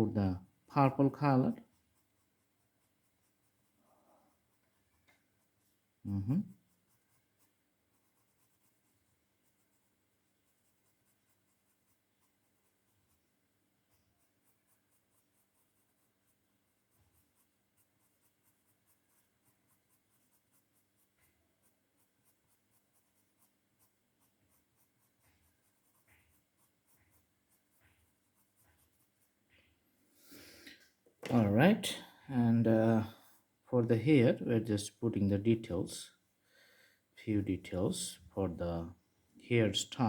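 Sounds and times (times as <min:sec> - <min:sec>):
colouring strokes on paper: 0:00.0 - 0:33.8.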